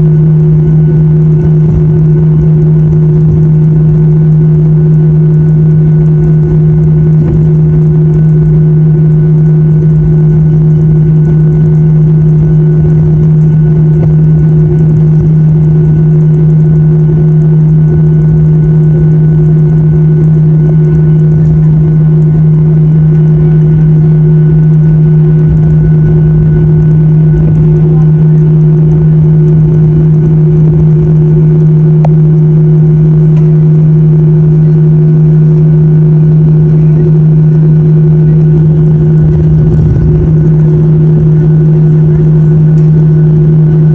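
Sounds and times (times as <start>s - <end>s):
airliner engine drone in cabin: 0.0s - 43.9s.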